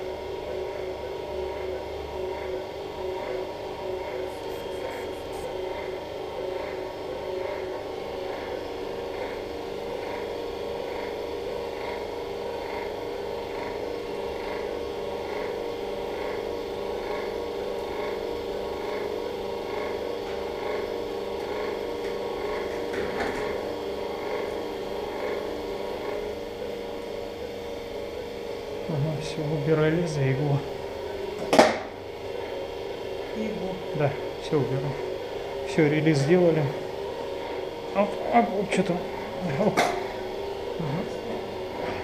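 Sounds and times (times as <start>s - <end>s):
equipment hum: 0.0s - 42.0s.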